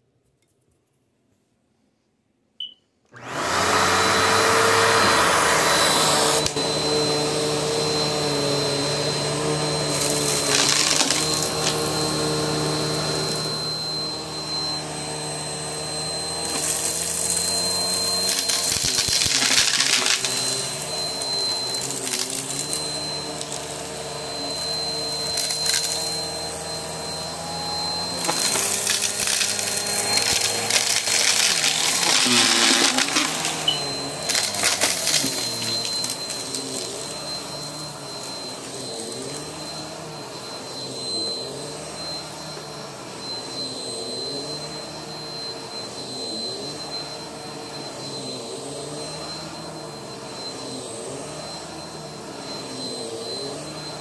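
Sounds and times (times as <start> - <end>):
vacuum cleaner running on carpet: 3.2 - 54.0.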